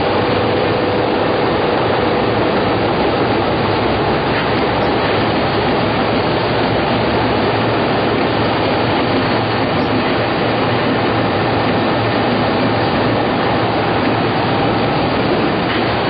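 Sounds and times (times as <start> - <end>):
low machine hum: 0.0 - 16.0
production machine mechanical rush: 0.0 - 16.0.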